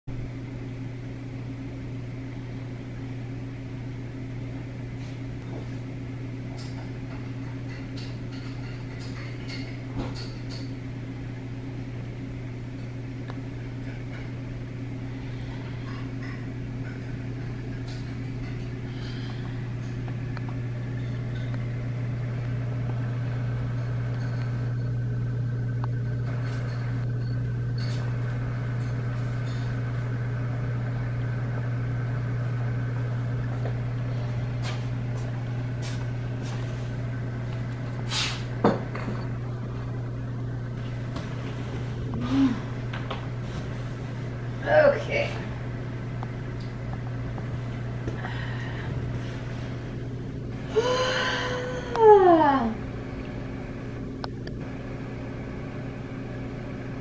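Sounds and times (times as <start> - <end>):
aquarium pumps humming: 0.1 - 57.0.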